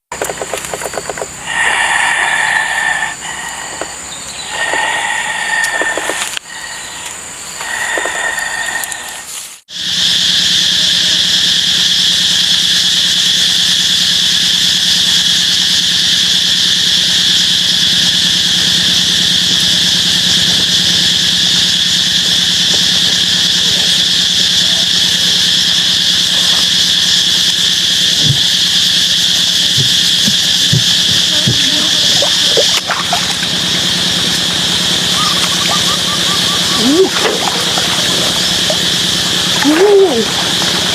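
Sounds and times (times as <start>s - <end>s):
insect drone: 0.0s - 40.9s.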